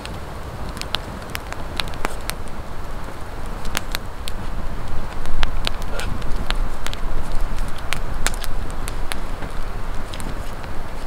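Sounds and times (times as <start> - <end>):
campfire crackling: 0.0 - 11.0
low steady rumble: 0.0 - 11.0
sharp fire pops: 0.0 - 11.0.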